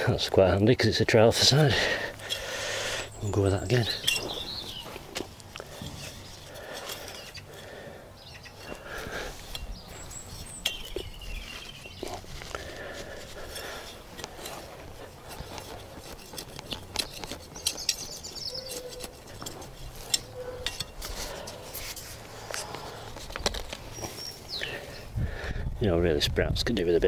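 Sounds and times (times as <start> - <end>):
trowel scraping soil: 0.0 - 25.0
birds chirping: 0.0 - 26.0.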